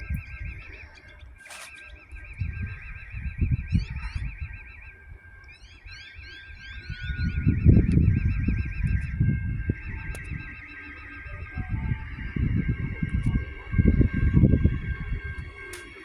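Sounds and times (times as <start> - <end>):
high warbling tone: 0.0 - 16.0
wind gusting on microphone: 0.0 - 16.0.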